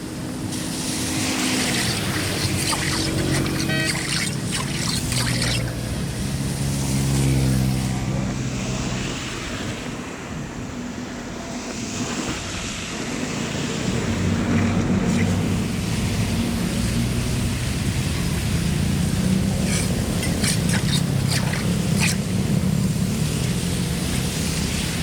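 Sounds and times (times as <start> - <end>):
engine running: 0.0 - 12.2, 12.8 - 25.0.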